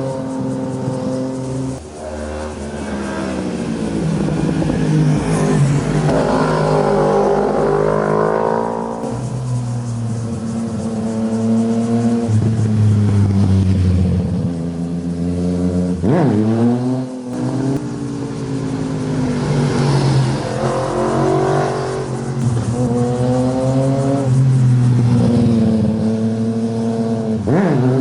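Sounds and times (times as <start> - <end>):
motorcycle engines running hard: 0.0 - 28.0.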